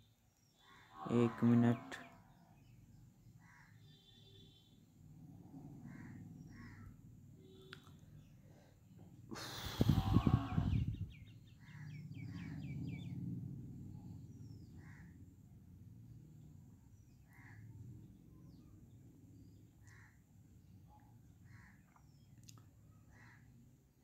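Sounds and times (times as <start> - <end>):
birds chirping: 0.0 - 4.8, 5.6 - 23.7.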